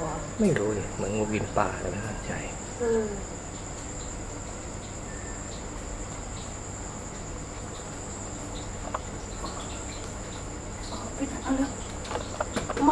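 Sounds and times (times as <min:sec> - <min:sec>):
night insects trilling: 0:00.0 - 0:12.9.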